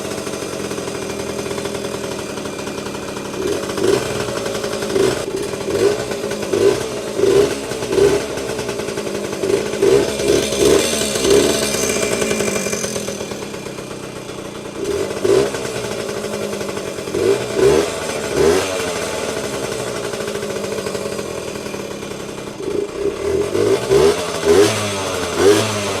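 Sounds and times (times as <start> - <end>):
two-stroke motorcycle engine revving: 0.0 - 26.0.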